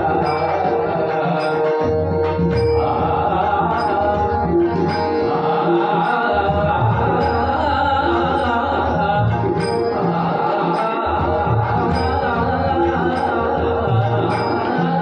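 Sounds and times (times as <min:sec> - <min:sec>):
harmonium sustained notes: 0:00.0 - 0:15.0
man singing: 0:00.0 - 0:15.0
tabla beat: 0:00.0 - 0:15.0.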